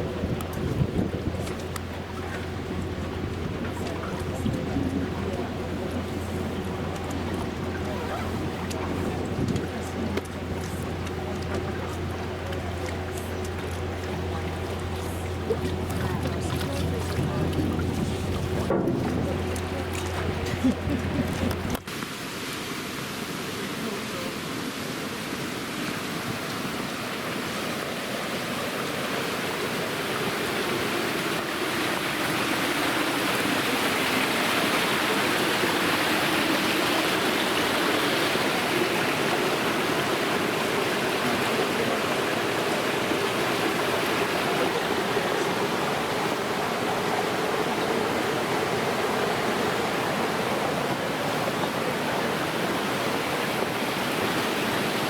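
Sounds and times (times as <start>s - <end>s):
waterfall rushing water: 0.0s - 55.0s.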